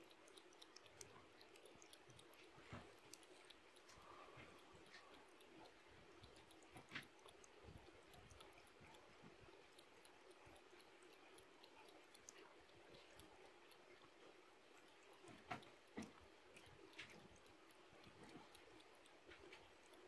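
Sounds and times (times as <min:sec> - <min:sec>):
cat lapping water: 0:00.0 - 0:20.0.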